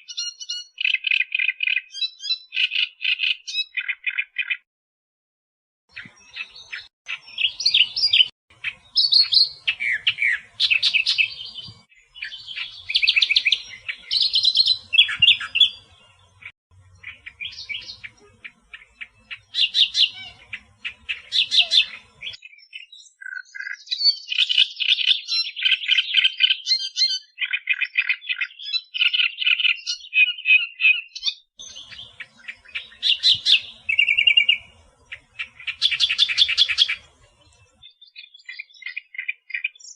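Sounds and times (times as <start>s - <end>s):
reed warbler singing: 5.9s - 39.9s.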